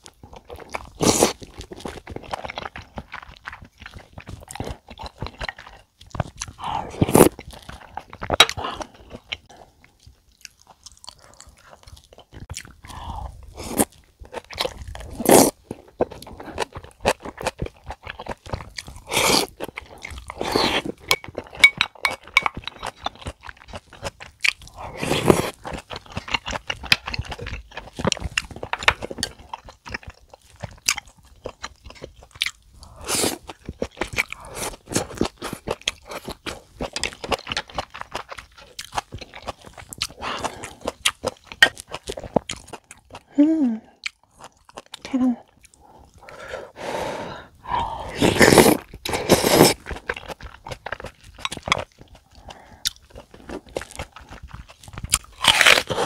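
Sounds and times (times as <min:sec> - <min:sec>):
close chewing and crunching: 0:00.0 - 0:56.0.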